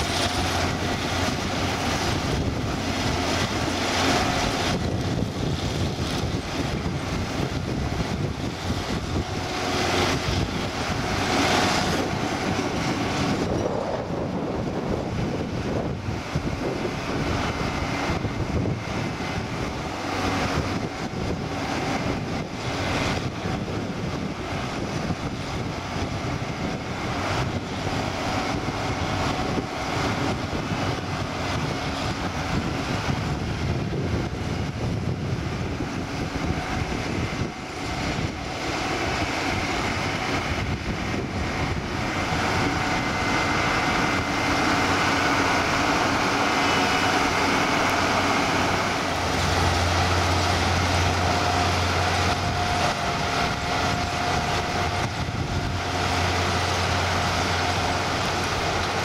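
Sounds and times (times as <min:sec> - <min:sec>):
potato harvester working: 0:00.0 - 0:59.0
tractor engines running: 0:00.0 - 0:59.0.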